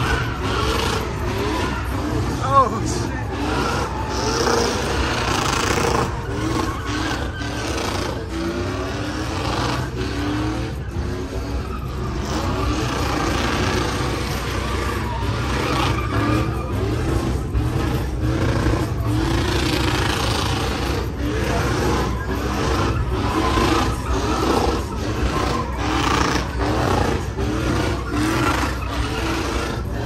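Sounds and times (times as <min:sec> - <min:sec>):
truck engine revving hard: 0:00.0 - 0:30.0
tyres spinning on pavement: 0:00.0 - 0:30.0.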